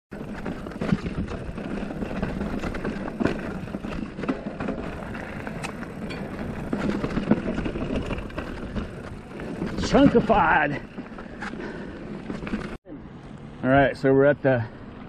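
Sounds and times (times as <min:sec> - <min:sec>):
bike knocking and rattling: 0:00.1 - 0:12.8
bike tyres crunching on gravel: 0:00.1 - 0:14.9.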